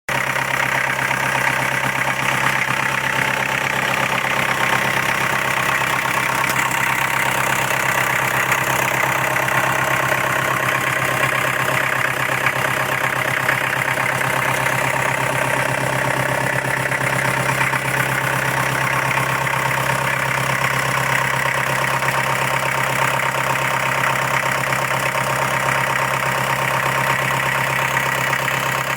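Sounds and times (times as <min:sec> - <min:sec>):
diesel generator engine running: 0:00.1 - 0:28.9.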